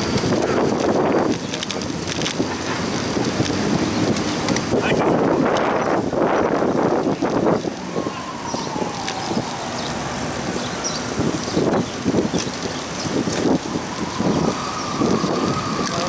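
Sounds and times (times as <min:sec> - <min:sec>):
street traffic noise: 0:00.0 - 0:16.0
wind buffeting microphone: 0:00.0 - 0:16.0.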